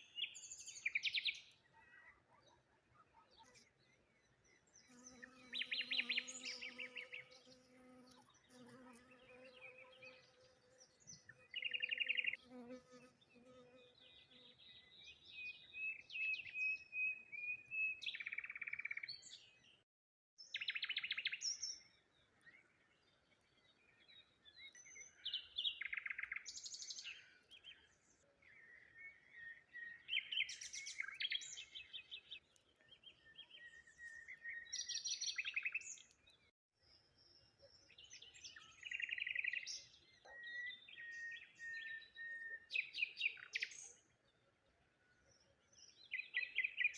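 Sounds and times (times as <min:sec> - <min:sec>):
songbirds singing and chirping: 0:00.0 - 0:19.8, 0:20.4 - 0:46.9.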